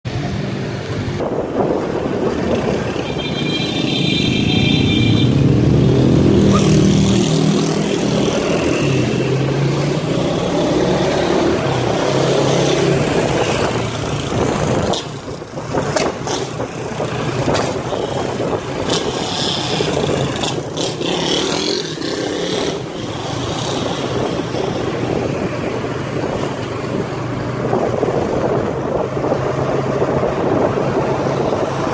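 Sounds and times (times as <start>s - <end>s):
wind and road noise: 0.0s - 31.9s.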